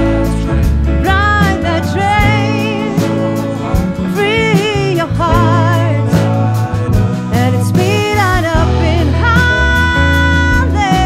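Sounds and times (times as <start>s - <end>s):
soul band playing live: 0.0s - 11.0s.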